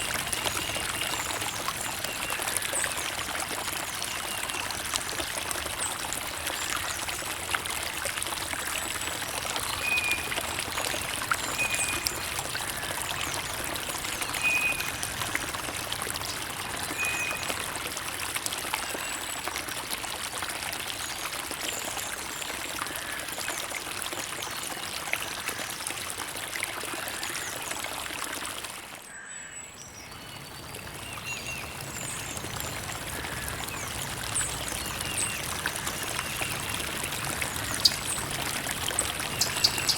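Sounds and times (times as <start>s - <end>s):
creek water rushing: 0.0s - 29.1s, 30.5s - 39.9s.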